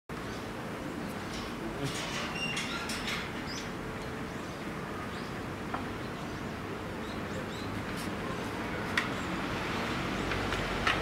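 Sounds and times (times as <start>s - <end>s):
steady background noise: 0.1s - 11.0s.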